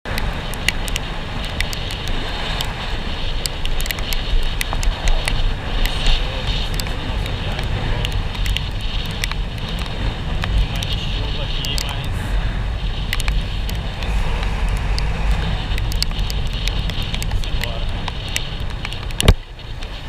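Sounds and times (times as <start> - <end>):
vehicle rumble: 0.0 - 20.0
wind on microphone: 0.0 - 20.0
sharp clicks: 0.1 - 2.7, 3.4 - 12.1, 13.0 - 19.9.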